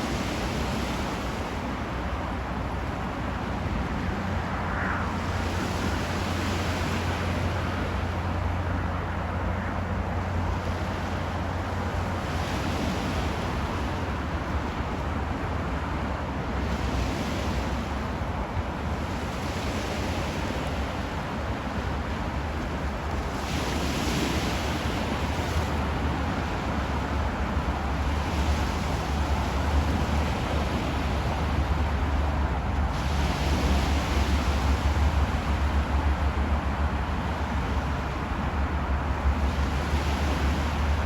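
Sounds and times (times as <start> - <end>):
waves breaking on shore: 0.0 - 41.0.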